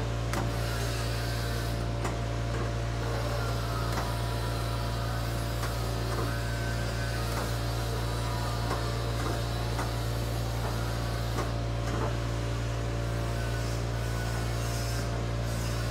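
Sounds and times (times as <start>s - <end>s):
spot welder electrical hum: 0.0s - 15.9s.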